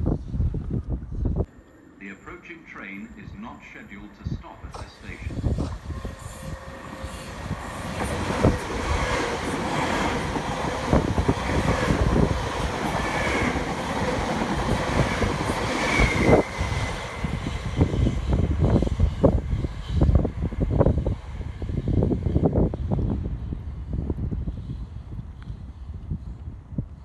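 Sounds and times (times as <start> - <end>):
train wheels rushing on rail: 4.1 - 27.0.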